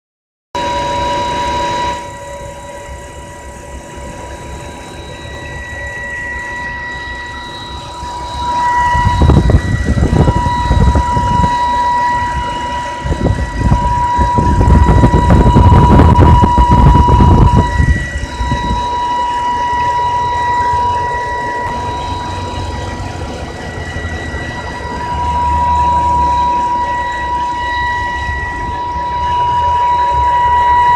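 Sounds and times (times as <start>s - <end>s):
high-pitched car engine whine: 0.6s - 30.9s
loud low rumbling: 4.0s - 30.9s.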